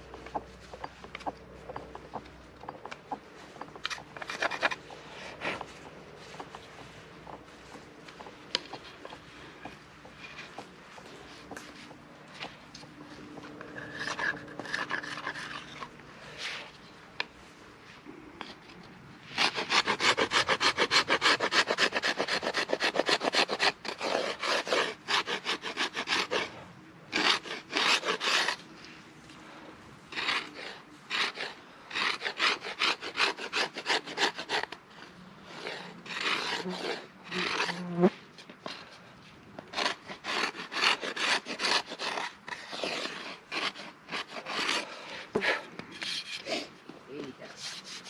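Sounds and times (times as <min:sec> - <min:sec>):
hand tool rasping wood: 0:00.0 - 0:16.8, 0:19.3 - 0:28.7, 0:30.1 - 0:39.0, 0:39.6 - 0:46.8, 0:47.5 - 0:48.0.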